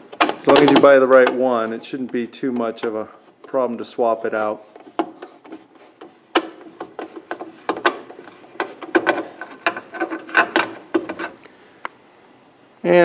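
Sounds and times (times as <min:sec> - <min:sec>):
handling noise: 0:00.0 - 0:11.8.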